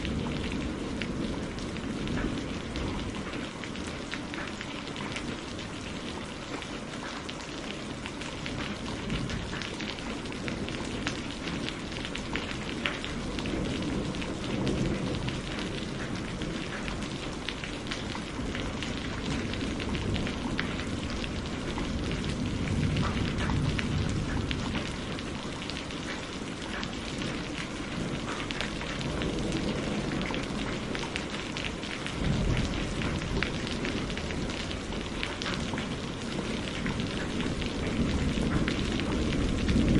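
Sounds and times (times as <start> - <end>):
thunder rumbling: 0.0 - 6.6, 7.6 - 39.9
heavy rain falling: 0.0 - 39.9.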